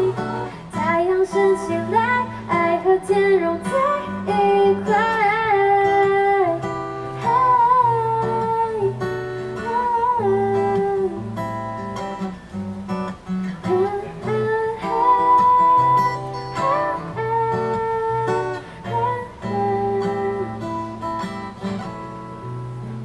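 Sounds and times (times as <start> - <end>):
guitar accompaniment: 0.0 - 23.0.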